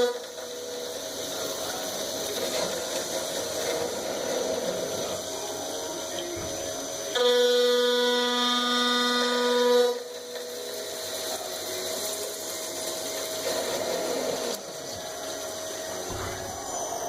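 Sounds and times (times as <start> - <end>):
machine whine: 0.0 - 17.0
machine whirring: 0.0 - 17.0
metal cutting noise: 0.0 - 17.0.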